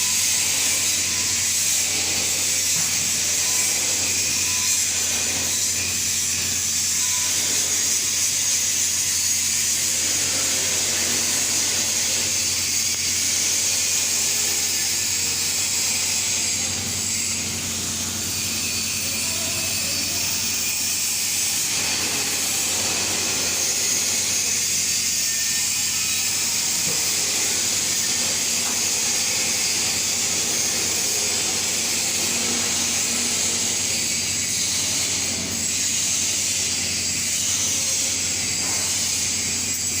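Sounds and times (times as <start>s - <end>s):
welding arc hissing: 0.0s - 40.0s.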